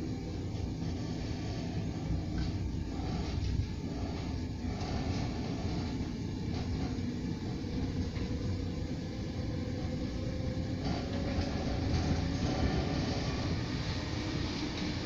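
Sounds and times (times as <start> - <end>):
faint whine: 0.0 - 15.0
train wheels rumbling on track: 0.0 - 15.0.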